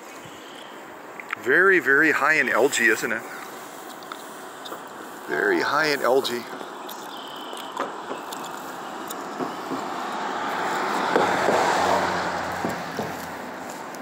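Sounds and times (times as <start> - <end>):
road vehicle passing by: 1.6 - 14.0.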